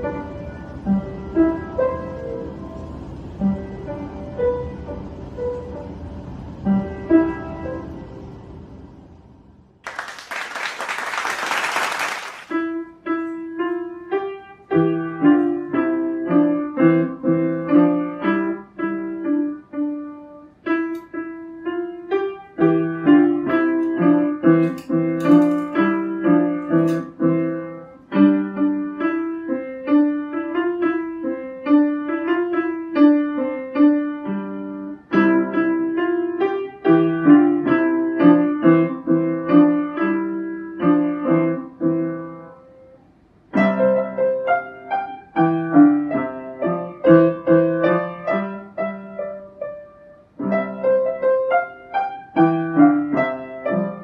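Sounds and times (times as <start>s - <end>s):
child playing piano: 0.0s - 9.0s, 12.5s - 54.0s.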